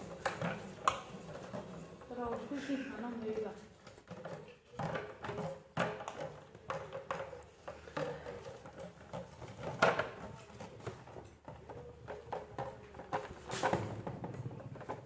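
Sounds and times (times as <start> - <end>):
plastic bottle knocking on stone floor: 0.1 - 15.0.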